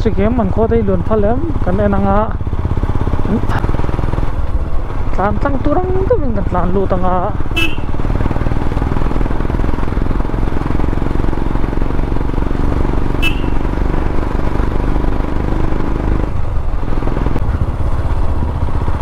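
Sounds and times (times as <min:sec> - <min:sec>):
motorcycle engine running: 0:00.0 - 0:19.0
road and wind noise: 0:00.0 - 0:19.0.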